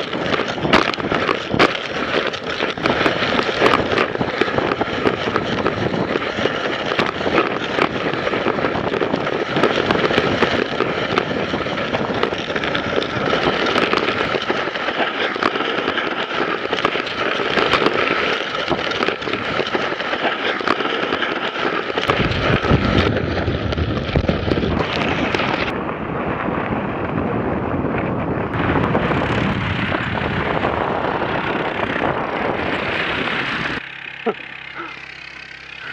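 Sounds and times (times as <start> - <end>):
wind on microphone: 0.0 - 33.8
sled runners scraping over icy snow: 0.0 - 35.9.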